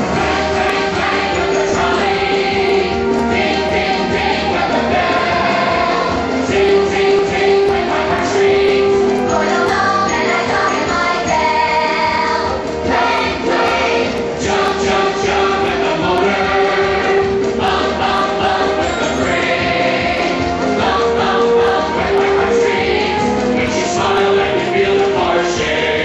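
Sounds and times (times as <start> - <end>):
group singing: 0.0 - 26.0
musical accompaniment: 0.0 - 26.0.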